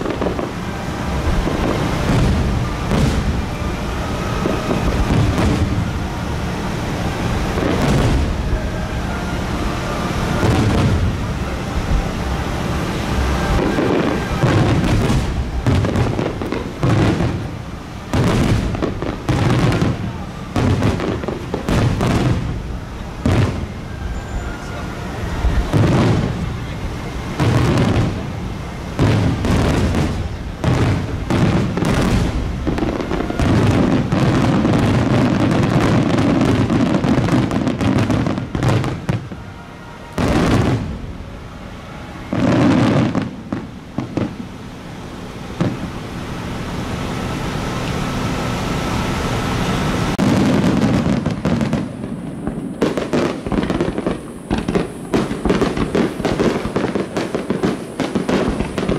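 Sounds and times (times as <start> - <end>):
fireworks booming: 0.0 - 58.9
fireworks crackling: 0.0 - 58.9.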